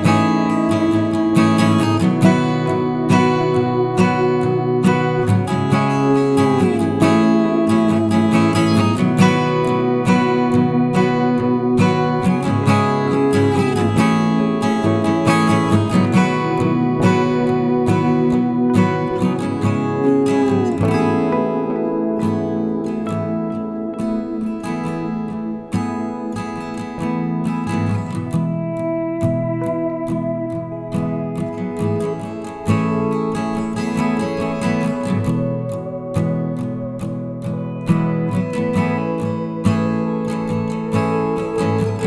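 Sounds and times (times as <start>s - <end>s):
strummed acoustic guitar: 0.0s - 42.0s.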